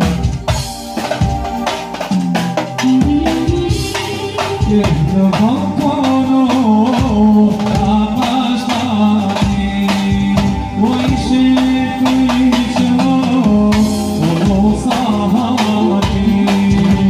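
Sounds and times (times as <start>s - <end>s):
drum kit beating: 0.0s - 17.0s
electronic keyboard melody: 0.0s - 17.0s.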